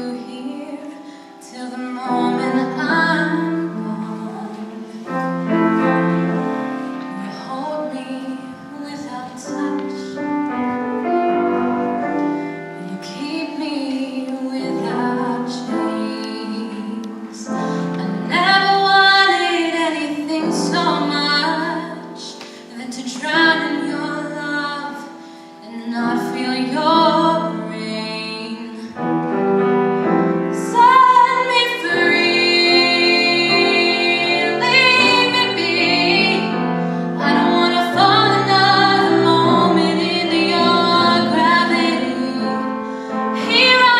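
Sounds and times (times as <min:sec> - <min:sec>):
woman singing: 0:00.0 - 0:05.1, 0:07.1 - 0:10.4, 0:12.8 - 0:29.0, 0:30.5 - 0:43.9
piano accompaniment: 0:00.0 - 0:43.9.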